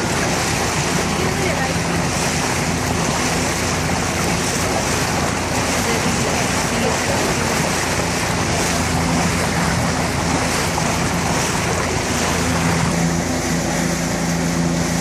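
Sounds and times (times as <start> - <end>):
boat motor humming: 0.0 - 15.0
water rushing along hull: 0.0 - 15.0
wind: 0.0 - 15.0.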